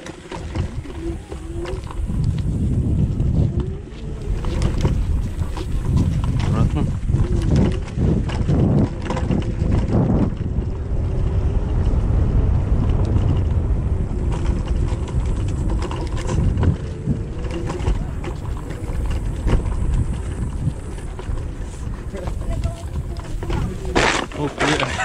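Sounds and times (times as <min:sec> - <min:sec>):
scooter rattling over rough ground: 0:00.0 - 0:25.0
wind buffeting microphone: 0:00.0 - 0:25.0.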